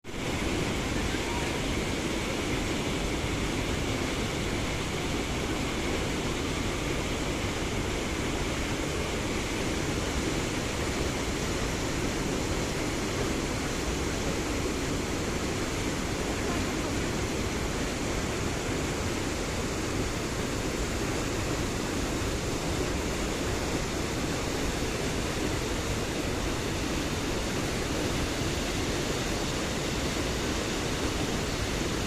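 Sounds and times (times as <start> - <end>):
waterfall and stream rushing: 0.0 - 32.0.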